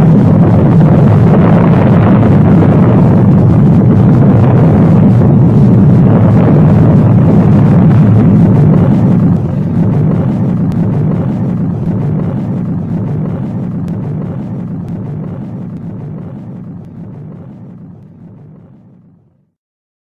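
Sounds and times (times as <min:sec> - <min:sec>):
explosion low rumble: 0:00.0 - 0:19.2.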